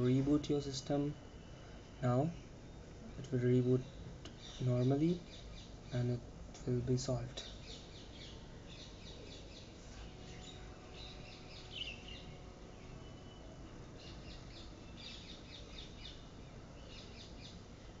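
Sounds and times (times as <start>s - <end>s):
faint bird chirps: 0.0s - 18.0s
low steady hum: 0.0s - 18.0s.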